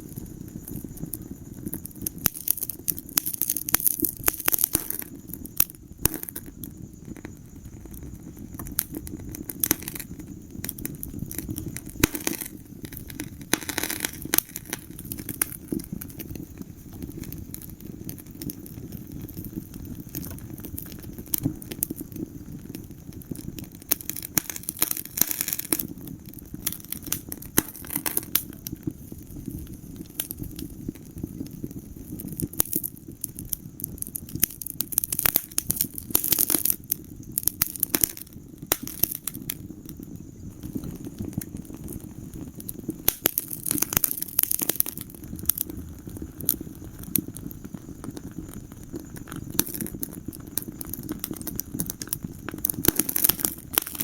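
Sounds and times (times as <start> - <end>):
fire crackling: 0.0 - 54.0
low rumble of flames: 0.0 - 54.0.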